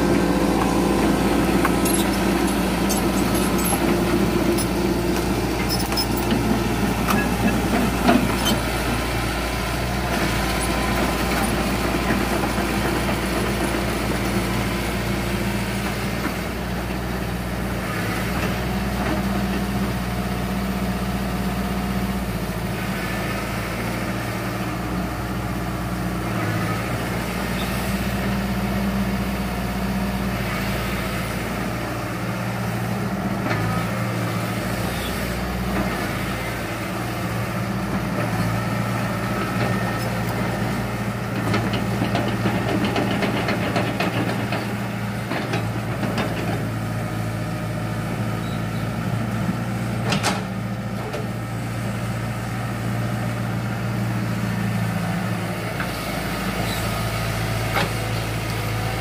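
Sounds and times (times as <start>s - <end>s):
excavator diesel engine humming: 0.0s - 59.0s.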